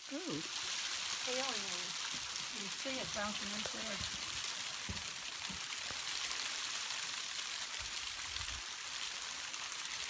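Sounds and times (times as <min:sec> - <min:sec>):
hail and rain hissing: 0:00.0 - 0:10.0.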